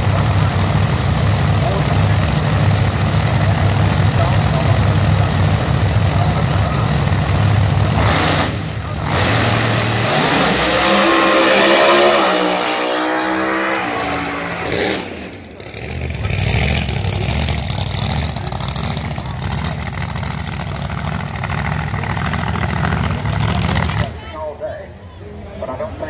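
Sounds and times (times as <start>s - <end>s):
drag racing car at full throttle: 0.0s - 24.4s.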